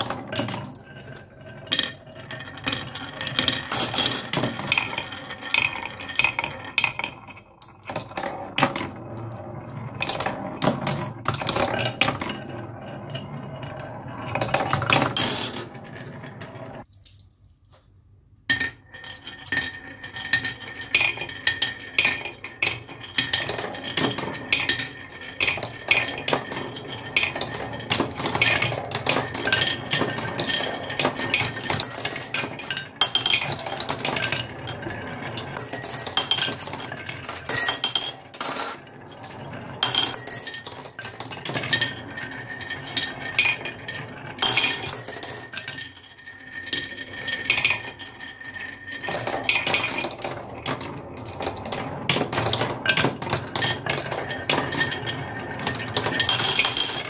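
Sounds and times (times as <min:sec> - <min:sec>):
marbles clattering on wooden track: 0:00.0 - 0:16.9, 0:18.5 - 0:57.0.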